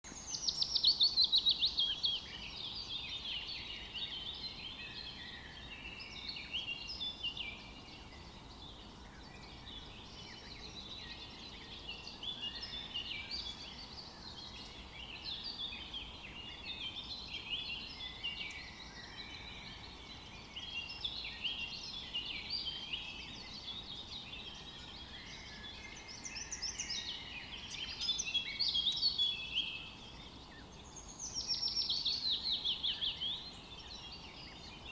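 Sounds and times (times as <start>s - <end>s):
small birds chirping and twittering: 0.0s - 34.9s.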